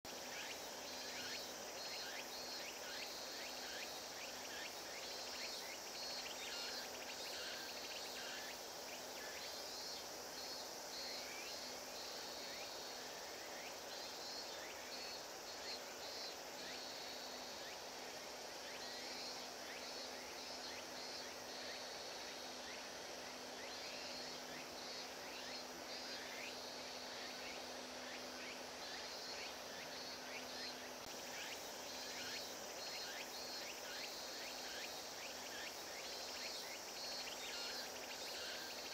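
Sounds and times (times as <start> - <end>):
insects chirping: 0.1 - 38.9.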